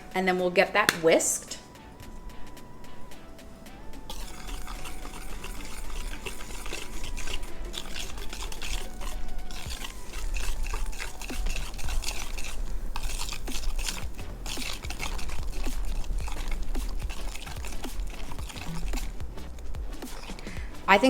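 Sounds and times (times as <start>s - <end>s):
whisk stirring thick batter: 1.3s - 21.0s.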